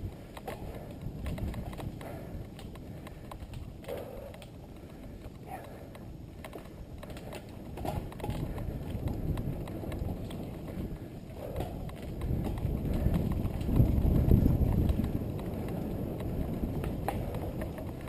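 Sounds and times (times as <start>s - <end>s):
bike rattling over bumps: 0.0s - 18.0s
bike tyres rumbling on dirt: 0.0s - 18.0s
wind on microphone: 0.0s - 18.0s.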